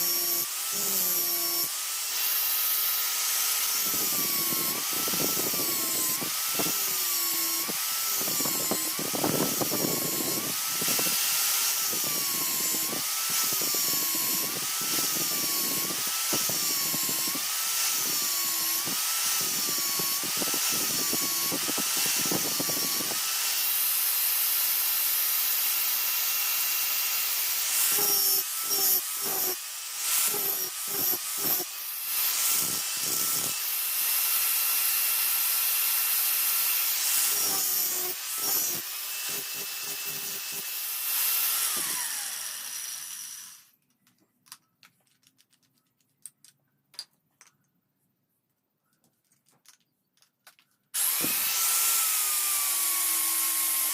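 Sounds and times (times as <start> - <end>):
power tool grinding steel: 0.0 - 43.7, 51.0 - 53.9.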